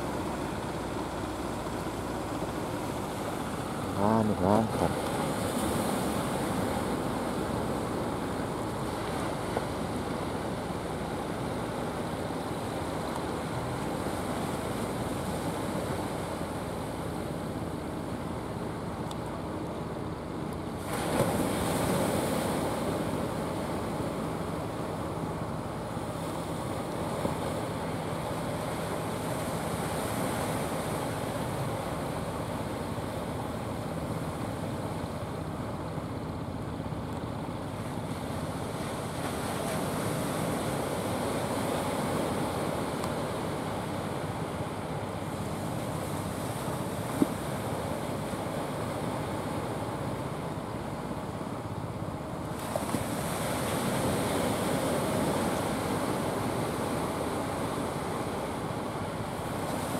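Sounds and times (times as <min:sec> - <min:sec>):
low boat engine hum: 0:00.0 - 0:59.9
sea surf washing: 0:00.0 - 0:59.9.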